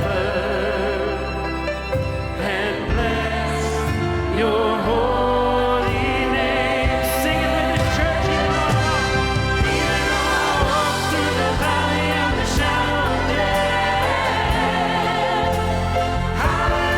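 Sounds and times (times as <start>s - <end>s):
choir and orchestra worship song: 0.0s - 16.9s.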